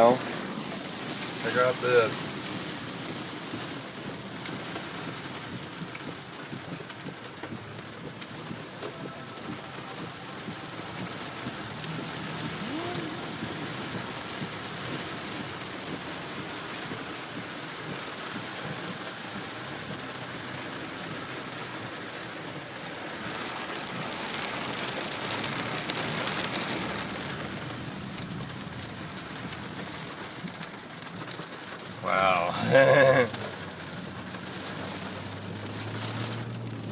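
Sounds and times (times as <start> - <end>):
heavy rain on a car: 0.0 - 36.9.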